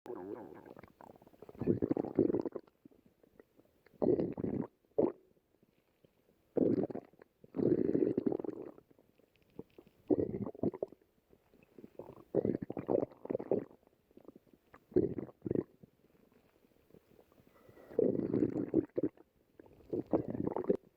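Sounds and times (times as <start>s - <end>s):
stomach growling and gurgling: 0.1s - 5.2s, 6.6s - 20.9s.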